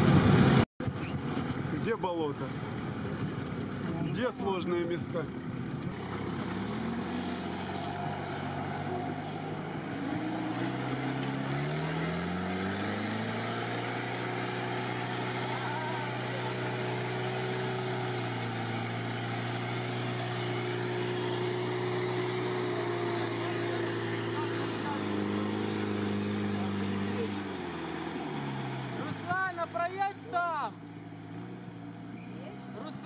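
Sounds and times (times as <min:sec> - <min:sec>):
wheels churning muddy water: 0:00.0 - 0:31.6
off-road vehicle engine under load: 0:00.0 - 0:33.0.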